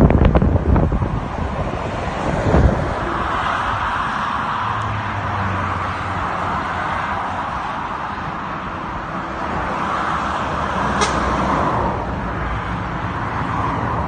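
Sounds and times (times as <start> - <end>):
traffic rushing past: 0.0 - 14.0.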